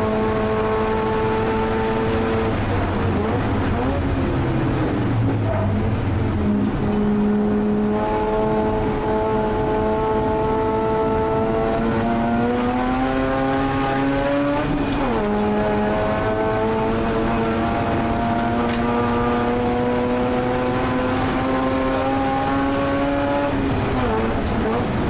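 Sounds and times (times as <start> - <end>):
rotary engine revving: 0.0 - 25.0
wind and road noise: 0.0 - 25.0.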